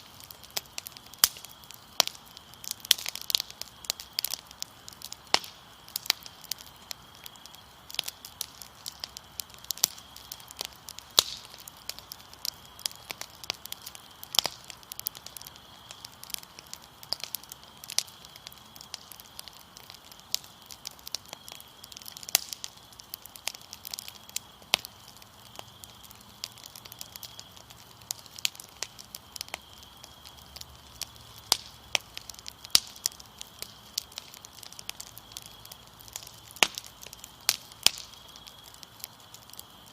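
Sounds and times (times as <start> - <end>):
crickets trilling: 0.0 - 39.9
fire crackling and popping: 0.0 - 39.9.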